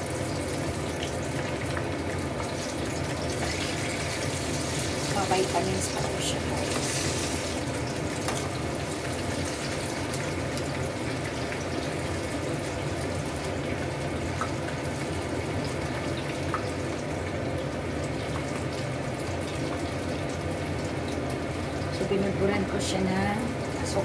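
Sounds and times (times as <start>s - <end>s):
oil sizzling in a pan: 0.0s - 24.0s.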